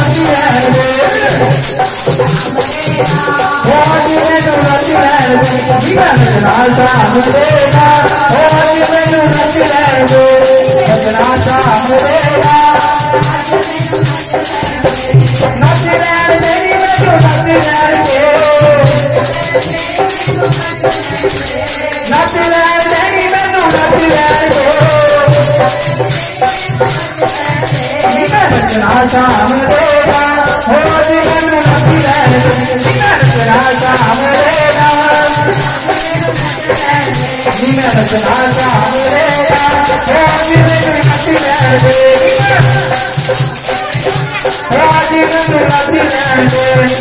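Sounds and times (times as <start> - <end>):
devotional song over steady beat: 0.0 - 47.0
shaker rattling: 0.0 - 47.0.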